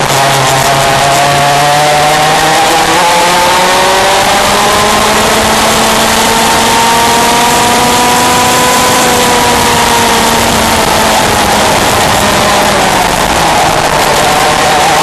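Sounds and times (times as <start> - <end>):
kart engine at racing speed: 0.0 - 15.0.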